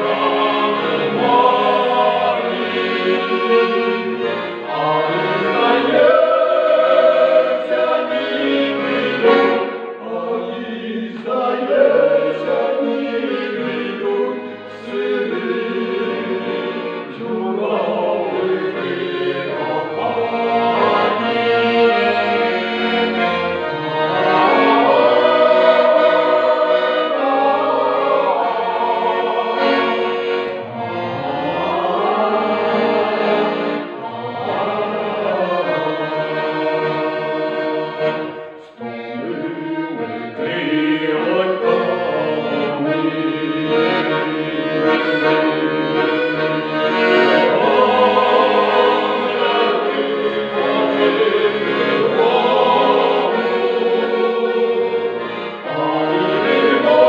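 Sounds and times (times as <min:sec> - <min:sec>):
accordion playing folk song: 0:00.0 - 0:57.0
choir singing: 0:00.0 - 0:57.0.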